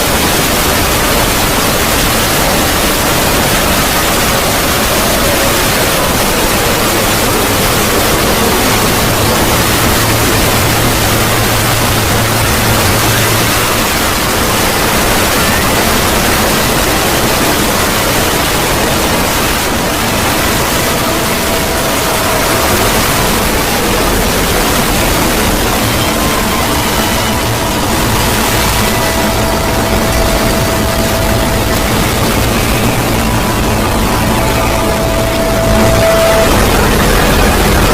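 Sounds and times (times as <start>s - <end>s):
faint steady tones: 0.0s - 37.9s
harsh static noise: 0.0s - 37.9s.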